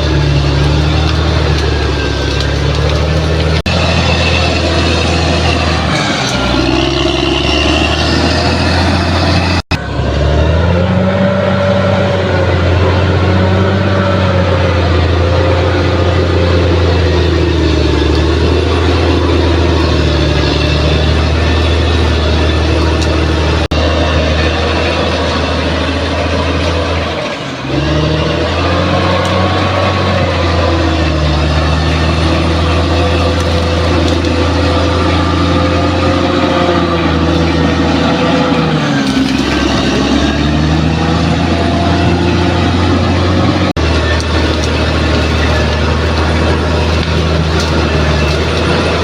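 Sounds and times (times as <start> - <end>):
bulldozer diesel engine running: 0.0 - 49.0.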